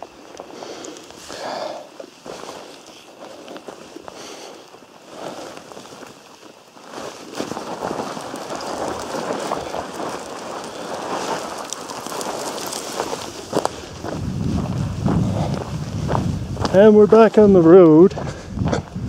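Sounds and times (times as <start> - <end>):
footsteps: 0.0 - 19.0
plastic poncho rustling: 1.1 - 17.4.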